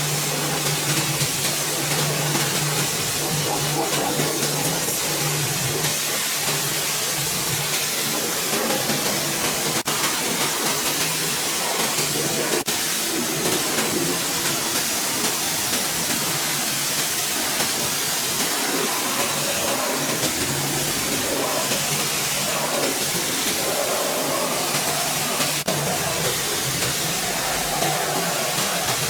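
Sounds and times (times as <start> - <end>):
car-cleaning equipment hissing: 0.0 - 29.0.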